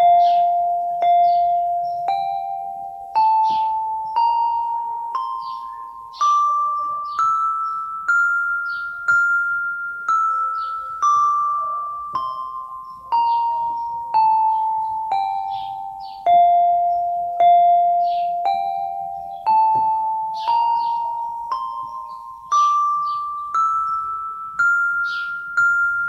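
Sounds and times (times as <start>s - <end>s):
electronic keyboard playing a scale: 0.0s - 26.0s.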